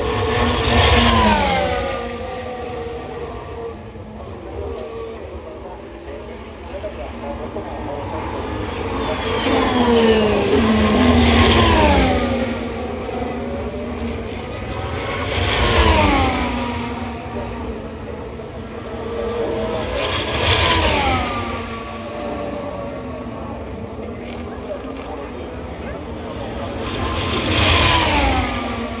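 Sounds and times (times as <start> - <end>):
race cars passing at speed: 0.0 - 29.0.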